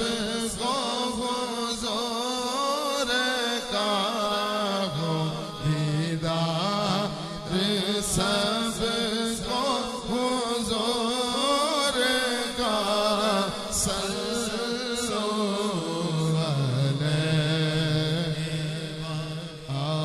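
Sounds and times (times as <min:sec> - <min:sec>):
man chanting devotional melody: 0:00.0 - 0:20.0.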